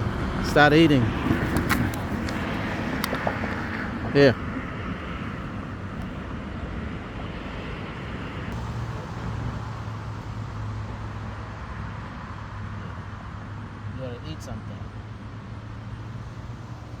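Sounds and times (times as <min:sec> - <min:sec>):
road traffic engine hum: 0:00.0 - 0:17.0.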